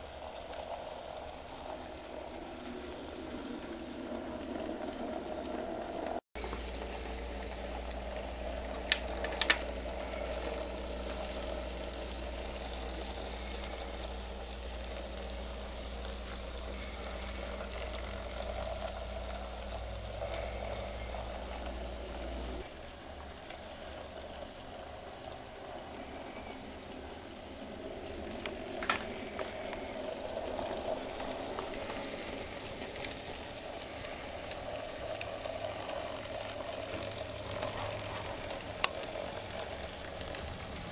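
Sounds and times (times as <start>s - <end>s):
small electric motors whirring: 0.0s - 40.9s.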